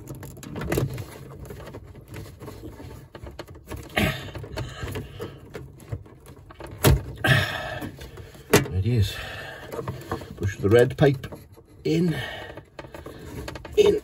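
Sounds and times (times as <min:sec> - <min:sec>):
plastic pipe rustling and knocking: 0:00.0 - 0:14.0.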